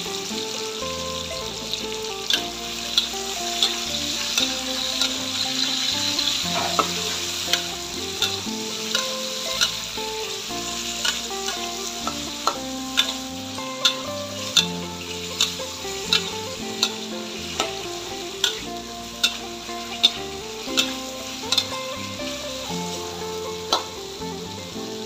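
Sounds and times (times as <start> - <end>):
food sizzling in a wok: 0.0 - 25.0
metal ladle scraping a pan: 0.0 - 25.0.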